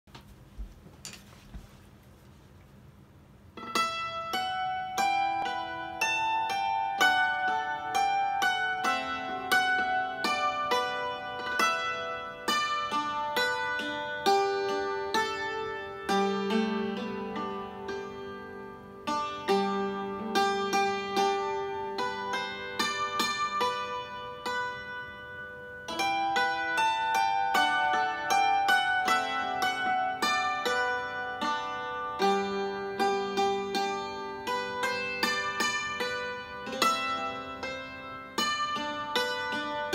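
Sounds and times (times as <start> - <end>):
hammered dulcimer slow tune: 3.6 - 39.9.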